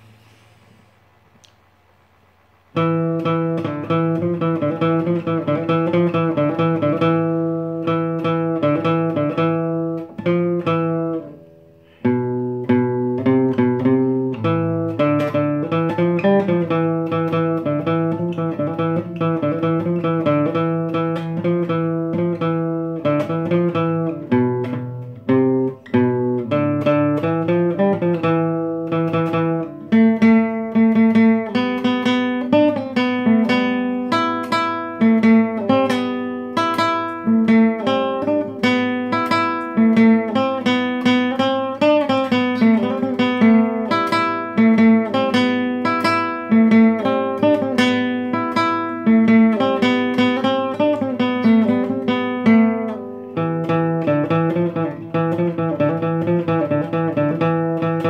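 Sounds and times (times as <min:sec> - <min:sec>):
classical guitar: 0:00.0 - 0:58.0.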